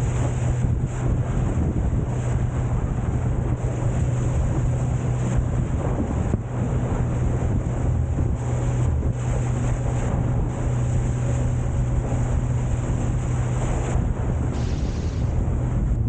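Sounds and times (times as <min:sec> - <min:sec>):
motorboat engine humming: 0:00.0 - 0:16.0
water rushing past hull: 0:00.0 - 0:16.0
wind buffeting microphone: 0:00.0 - 0:16.0.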